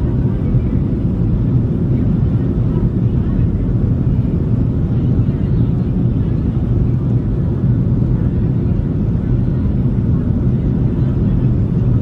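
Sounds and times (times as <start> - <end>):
aircraft cabin rumble: 0.0 - 12.0
constant hum: 0.0 - 12.0.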